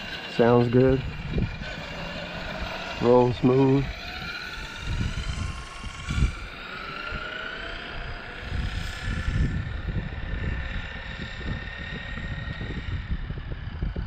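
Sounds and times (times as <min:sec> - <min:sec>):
low rumble: 0:00.0 - 0:14.0
rc truck motor whining: 0:00.0 - 0:14.0.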